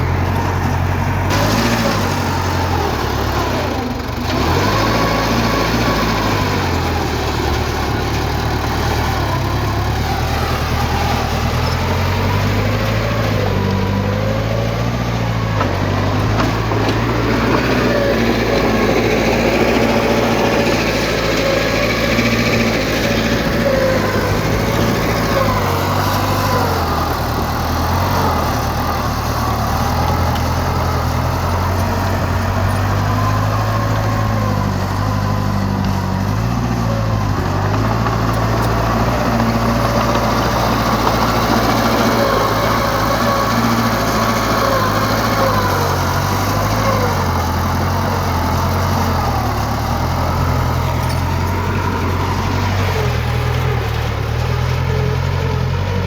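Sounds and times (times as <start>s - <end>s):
heavy machinery diesel engine: 0.0s - 56.0s.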